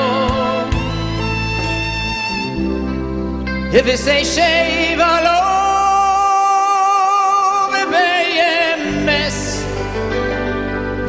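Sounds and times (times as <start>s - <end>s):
man singing with vibrato: 0.0s - 1.8s, 3.7s - 11.0s.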